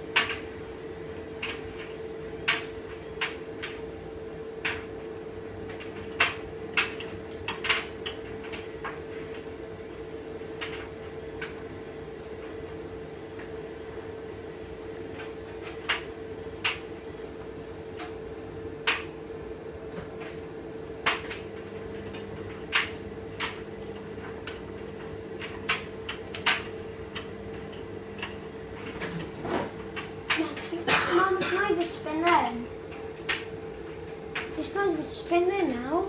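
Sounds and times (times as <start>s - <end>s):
washing machine humming: 0.0s - 36.0s.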